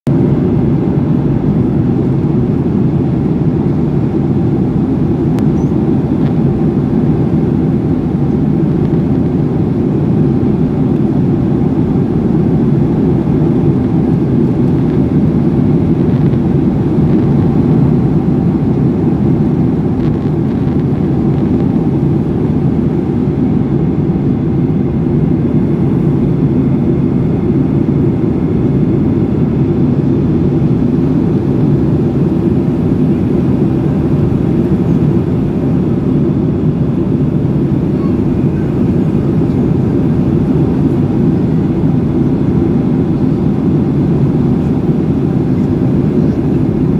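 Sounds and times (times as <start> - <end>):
aeroplane cabin drone: 0.1 - 46.9.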